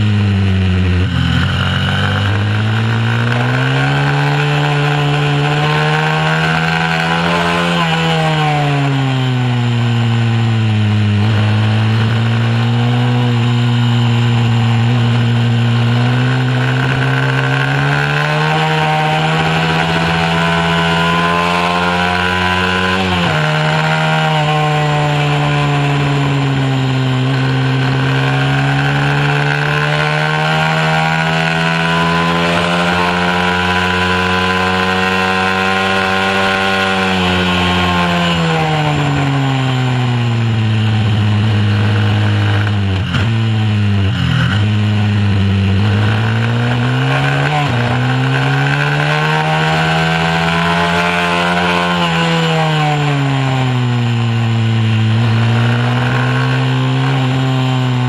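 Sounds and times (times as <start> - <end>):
small motorbike engine revving: 0.0 - 58.0.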